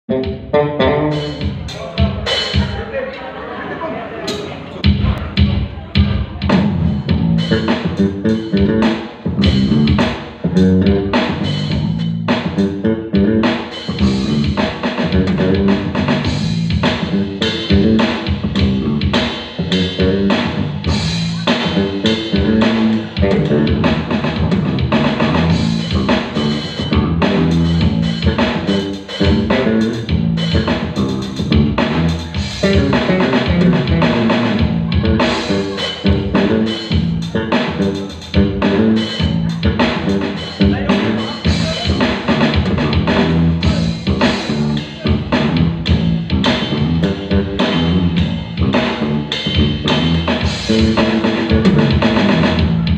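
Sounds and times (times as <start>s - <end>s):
bass guitar: 0.0s - 2.8s, 4.8s - 52.9s
guitar: 0.1s - 2.8s, 4.3s - 52.9s
drum kit: 0.1s - 3.0s, 4.3s - 52.9s.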